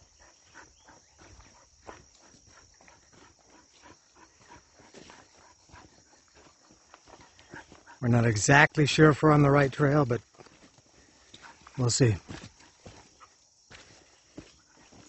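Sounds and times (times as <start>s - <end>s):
faint footsteps on trail: 0.0s - 15.0s
high buzz of insects: 0.0s - 15.0s.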